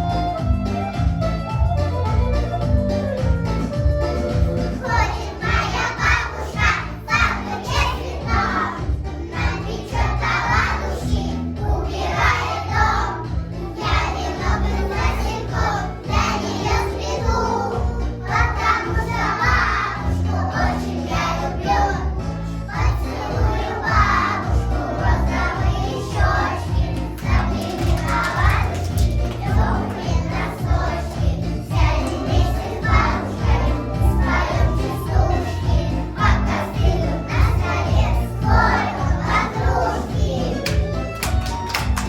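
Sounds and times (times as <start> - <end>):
instrumental accompaniment with bass: 0.0 - 42.0
children singing: 4.2 - 40.7.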